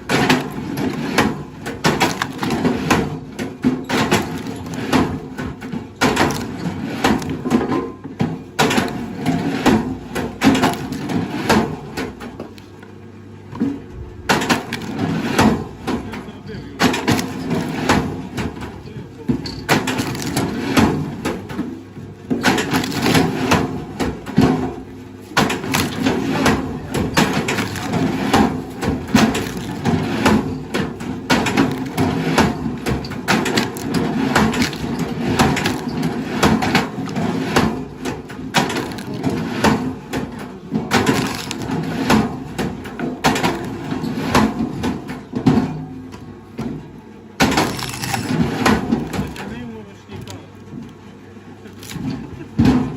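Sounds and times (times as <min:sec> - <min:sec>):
wood cracking and splintering: 0:00.0 - 0:07.7, 0:08.6 - 0:11.7, 0:14.3 - 0:18.7, 0:19.3 - 0:21.7, 0:22.4 - 0:24.7, 0:25.4 - 0:44.6, 0:47.4 - 0:50.4, 0:51.7 - 0:52.9.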